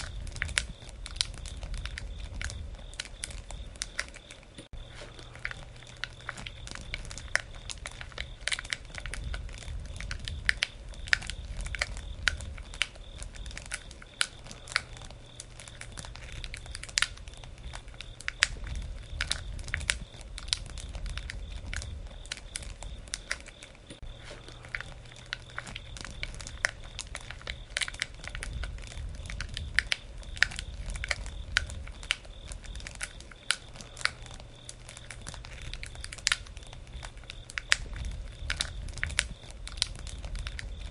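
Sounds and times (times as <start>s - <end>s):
campfire popping and snapping: 0.0s - 40.9s
low rumble of flames: 0.0s - 40.9s.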